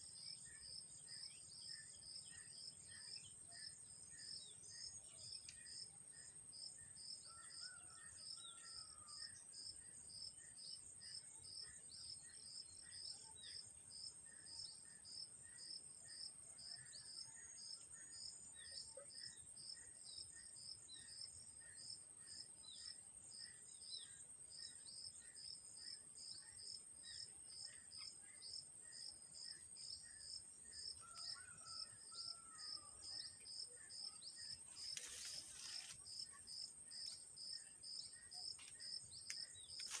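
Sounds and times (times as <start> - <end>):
insect regular chirp: 0.0 - 40.0.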